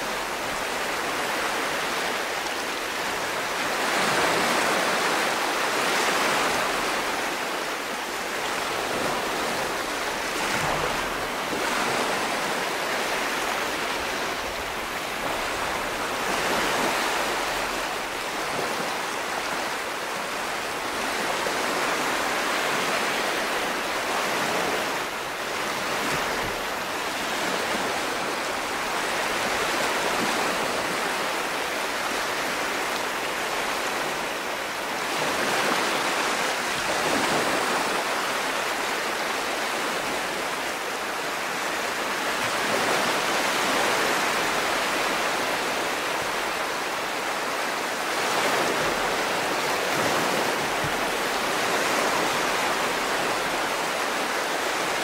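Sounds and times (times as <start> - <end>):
sea waves washing up a beach: 0.0 - 55.0.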